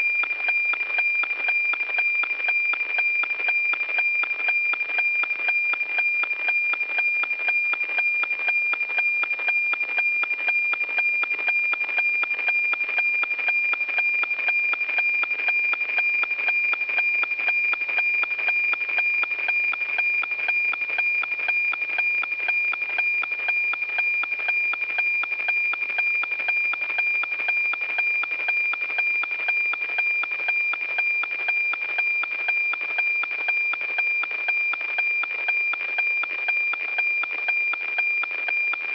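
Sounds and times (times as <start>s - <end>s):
steady high tone with fast ticking: 0.0s - 38.9s.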